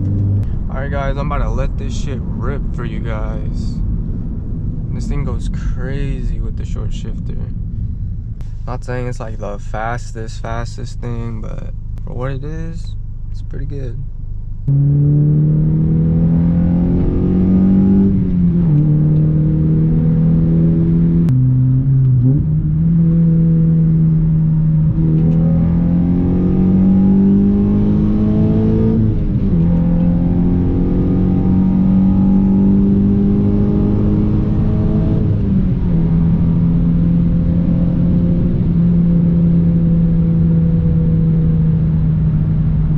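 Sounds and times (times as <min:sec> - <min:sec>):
car engine accelerating hard: 0:00.0 - 0:07.8, 0:14.6 - 0:42.9.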